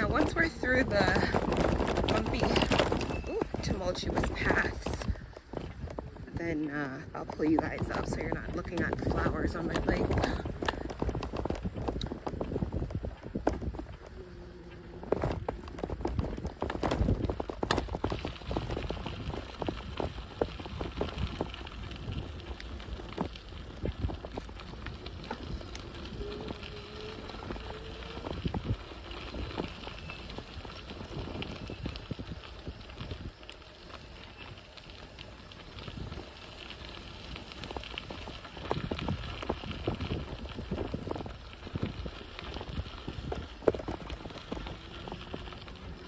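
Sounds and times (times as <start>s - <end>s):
bike knocking and rattling: 0.0s - 46.0s
low tyre rumble: 0.0s - 46.0s.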